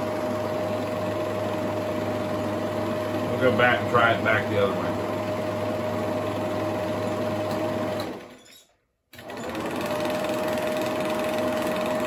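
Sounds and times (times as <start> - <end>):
film projector whining: 0.0 - 8.5, 9.1 - 12.0.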